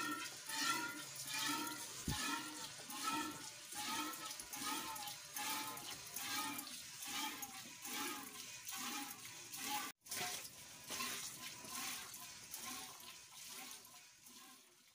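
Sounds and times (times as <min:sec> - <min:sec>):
milk squirting into metal bucket: 0:00.0 - 0:14.9.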